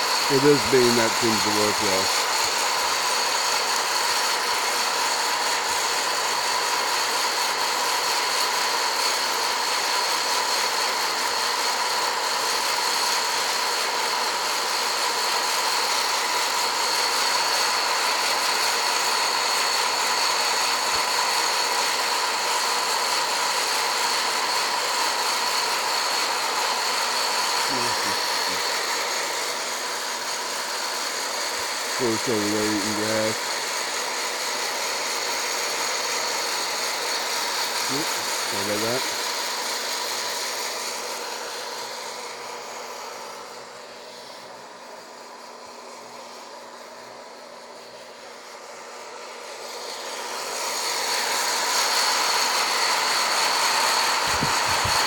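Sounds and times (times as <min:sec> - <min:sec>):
roaster fan blowing: 0:00.0 - 0:55.0.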